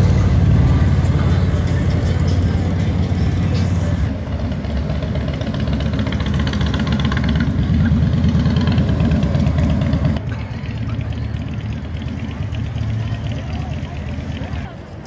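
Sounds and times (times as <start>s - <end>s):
car engines passing: 0.0s - 15.0s
motorcycle passing: 0.0s - 15.0s
steady traffic background: 0.0s - 15.0s.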